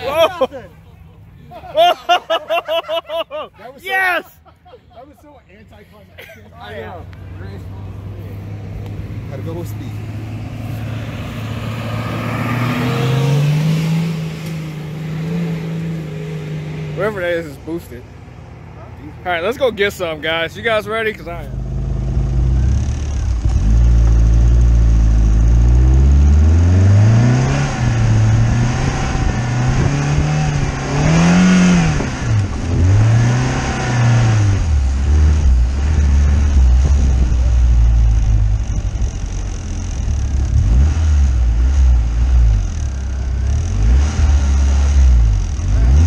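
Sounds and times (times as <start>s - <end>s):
car engine revving: 6.9s - 46.0s.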